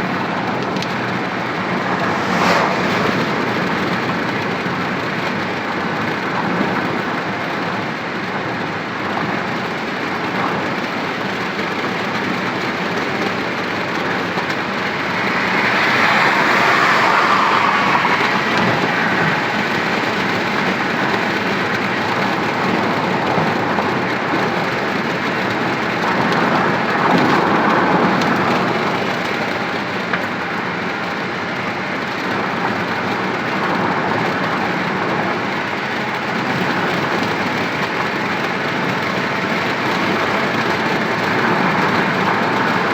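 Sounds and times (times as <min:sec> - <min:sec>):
vehicle road and engine noise: 0:00.0 - 0:42.9.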